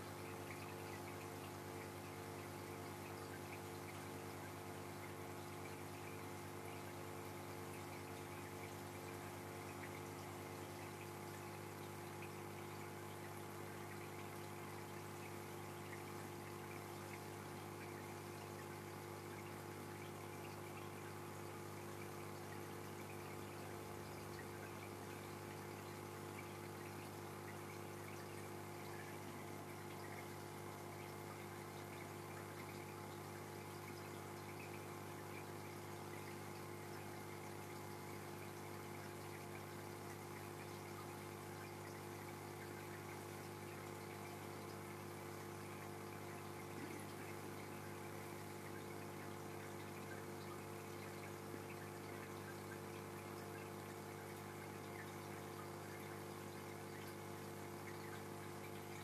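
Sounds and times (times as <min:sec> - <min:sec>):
aquarium pump humming: 0:00.0 - 0:59.0
water trickling and bubbling: 0:00.0 - 0:59.0.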